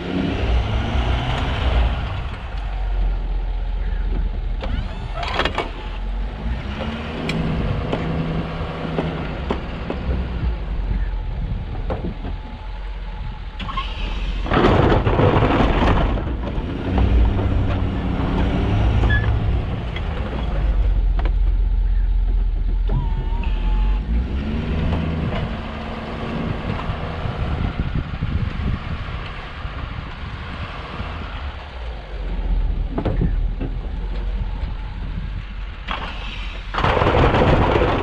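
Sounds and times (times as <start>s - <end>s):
truck engine rumbling: 0.0s - 38.0s.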